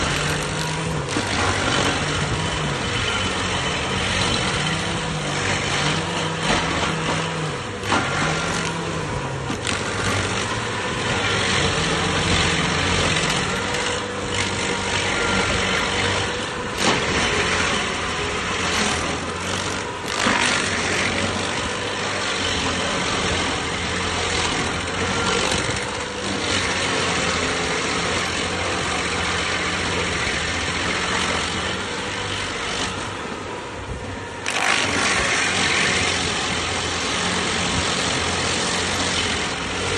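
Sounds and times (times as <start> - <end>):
grinding noise: 0.0 - 39.9
stump grinder engine running: 0.0 - 39.9.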